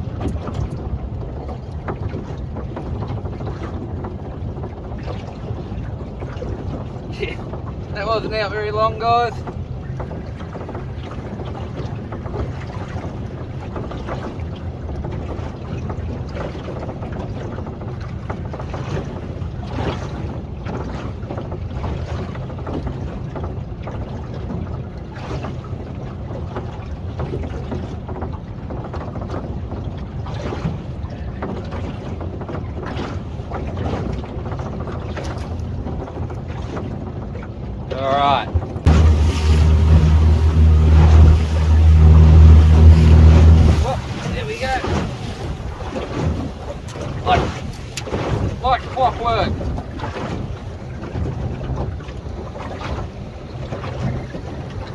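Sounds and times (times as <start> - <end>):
outboard motor running: 0.0 - 54.9
wind buffeting microphone: 0.0 - 54.9.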